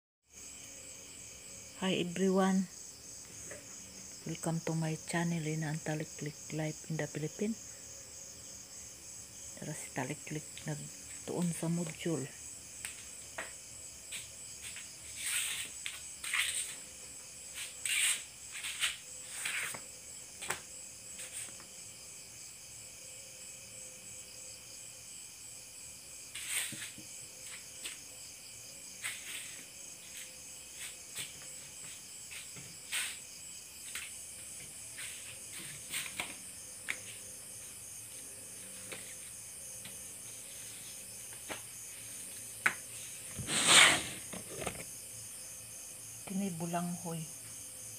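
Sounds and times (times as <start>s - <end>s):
insects trilling: 0.3s - 47.9s.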